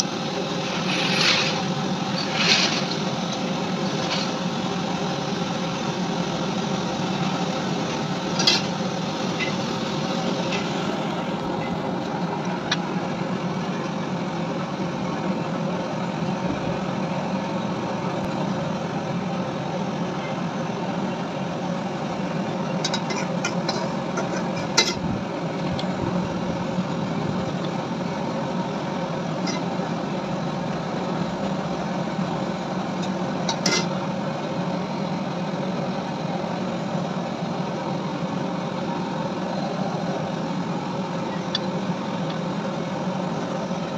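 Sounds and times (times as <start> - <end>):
machine droning: 0.0 - 43.9.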